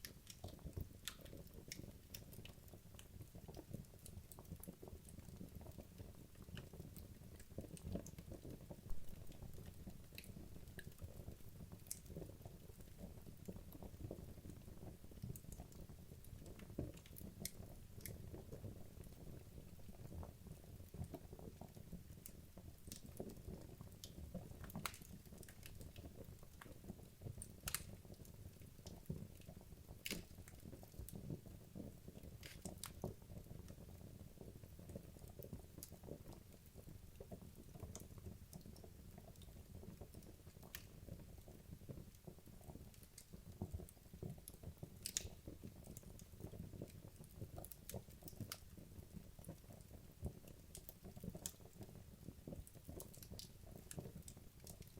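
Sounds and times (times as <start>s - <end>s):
fire crackling and popping: 0.0s - 54.9s.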